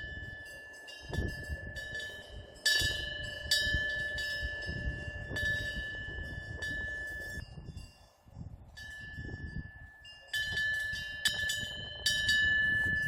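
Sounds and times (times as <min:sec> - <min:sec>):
low rush of wind: 0:00.0 - 0:13.0
wind bell ringing: 0:00.0 - 0:13.0.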